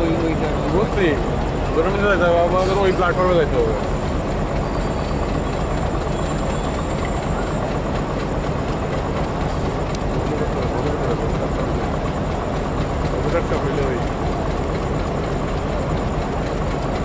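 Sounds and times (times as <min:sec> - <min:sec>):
diesel train approaching: 0:00.0 - 0:17.0.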